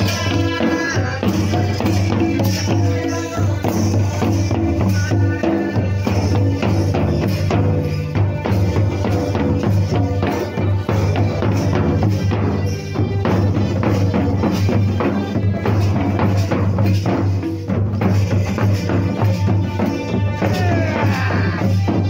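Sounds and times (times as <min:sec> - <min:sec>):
folk dance music: 0:00.0 - 0:22.0
jingling percussion: 0:00.0 - 0:22.0
steady drum beat: 0:00.0 - 0:22.0.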